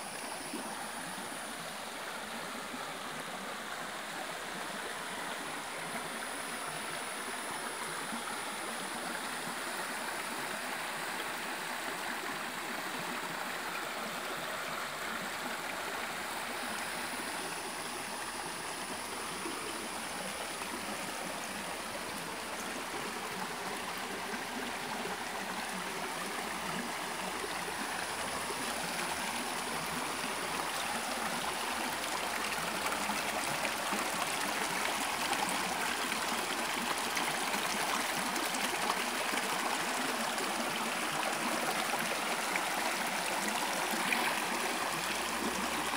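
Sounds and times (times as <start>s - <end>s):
stream running over rocks: 0.0s - 45.9s.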